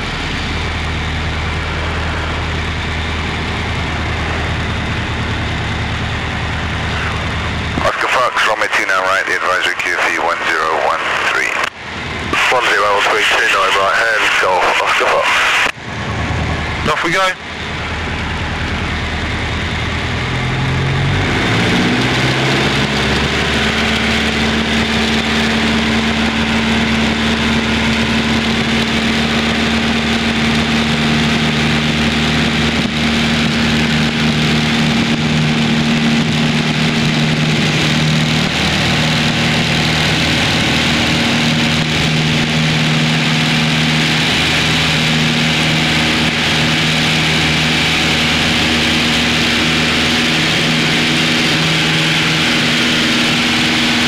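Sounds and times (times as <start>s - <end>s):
muffled propeller plane engine: 0.0s - 54.0s.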